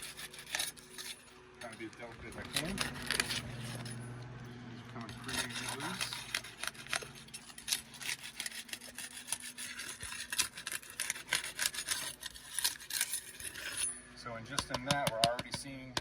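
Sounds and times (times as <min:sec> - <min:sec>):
roof shingles being pried up: 0:00.0 - 0:04.0, 0:05.0 - 0:13.8.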